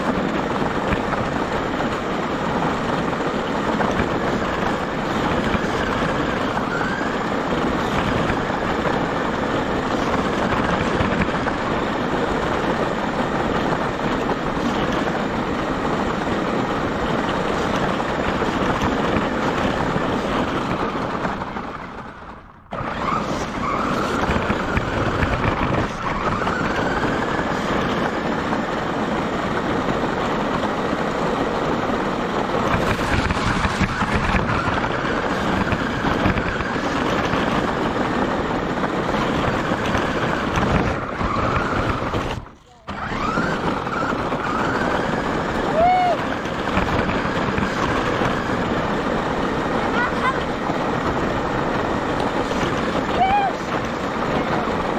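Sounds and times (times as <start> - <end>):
tyres on gravel: 0.0 - 54.9.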